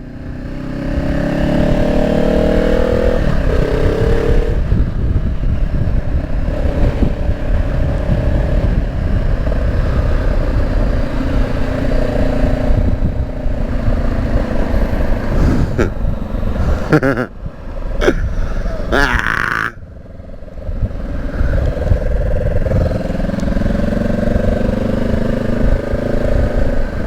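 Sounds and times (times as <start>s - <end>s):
motorcycle engine rumbling: 0.0s - 27.0s.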